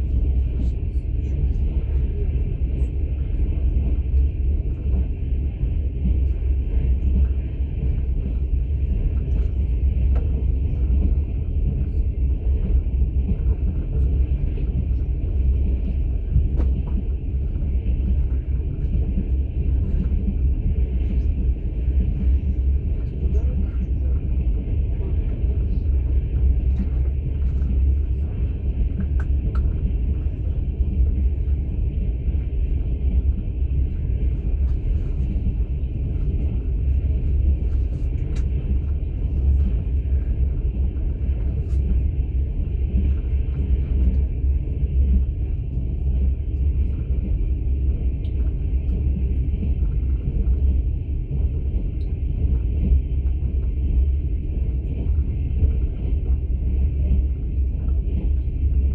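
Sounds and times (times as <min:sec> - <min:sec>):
train rumbling on rails: 0:00.0 - 0:58.9.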